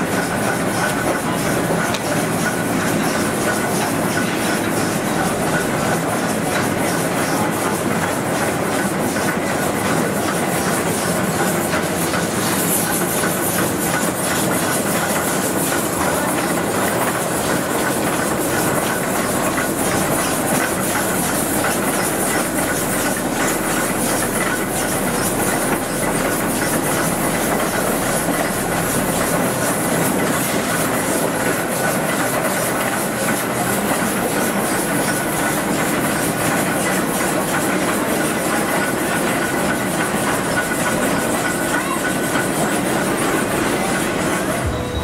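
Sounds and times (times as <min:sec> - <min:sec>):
engine clatter: 0:00.0 - 0:45.0
steam hissing: 0:00.0 - 0:45.0.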